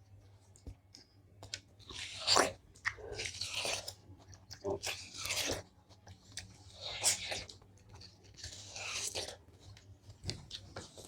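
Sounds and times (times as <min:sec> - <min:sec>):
chewing watermelon crunches: 0:00.3 - 0:11.0.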